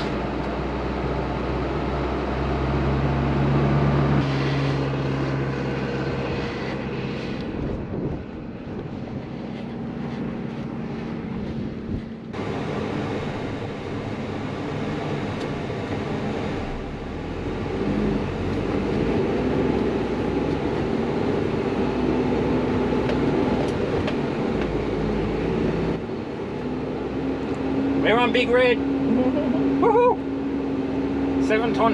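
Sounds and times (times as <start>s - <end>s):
diesel truck engine under load: 0.0s - 31.9s.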